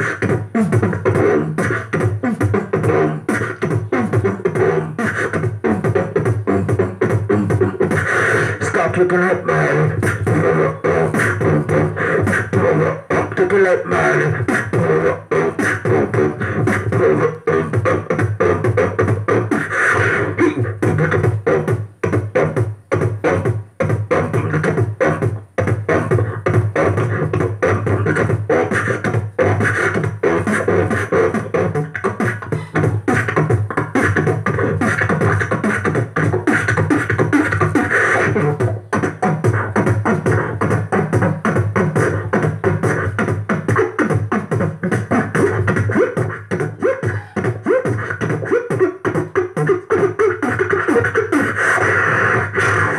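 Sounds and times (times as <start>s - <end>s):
man beatboxing: 0.0s - 52.9s.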